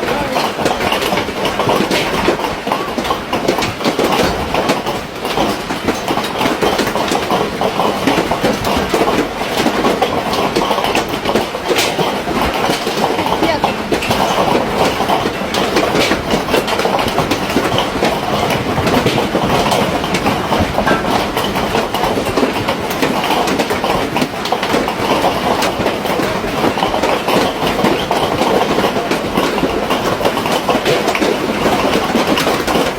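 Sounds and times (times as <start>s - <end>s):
hailstones clattering: 0.0s - 32.9s.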